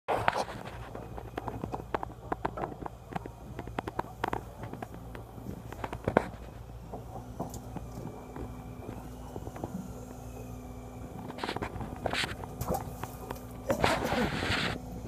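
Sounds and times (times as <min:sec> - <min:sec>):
boat engine droning: 0:00.2 - 0:15.0.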